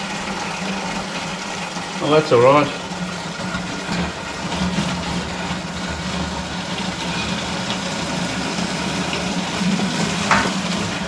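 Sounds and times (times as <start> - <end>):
water running from hose: 0.0 - 11.0.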